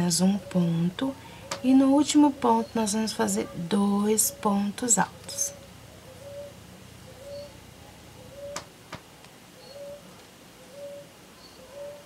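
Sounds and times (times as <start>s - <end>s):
bird cooing: 0.0s - 8.8s, 9.5s - 12.0s.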